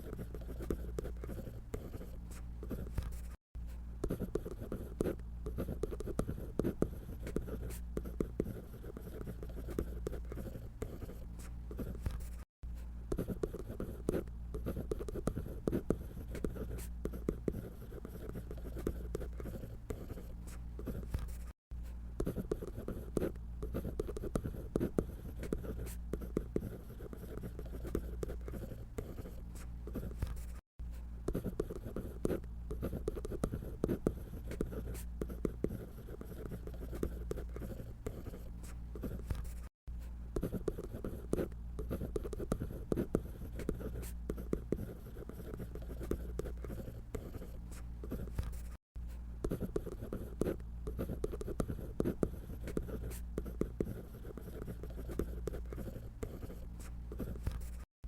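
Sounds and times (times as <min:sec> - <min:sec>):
drawing tool scratching paper: 0:00.0 - 0:03.4, 0:04.0 - 0:12.5, 0:13.1 - 0:21.6, 0:22.2 - 0:30.6, 0:31.3 - 0:39.7, 0:40.4 - 0:48.8, 0:49.4 - 0:57.9.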